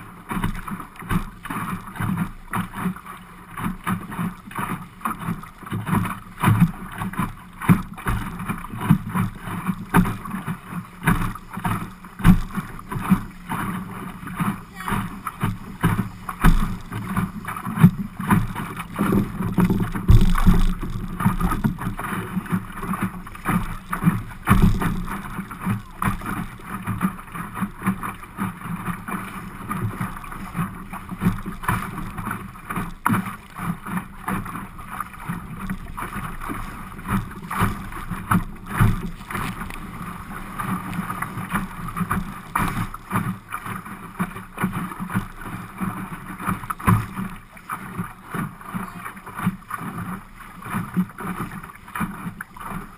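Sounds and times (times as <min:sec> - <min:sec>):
water slapping against a hull: 0:00.0 - 0:52.9.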